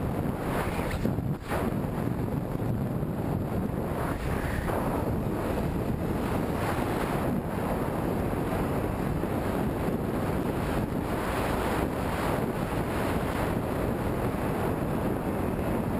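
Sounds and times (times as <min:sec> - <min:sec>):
wind rushing over microphone: 0:00.0 - 0:15.9.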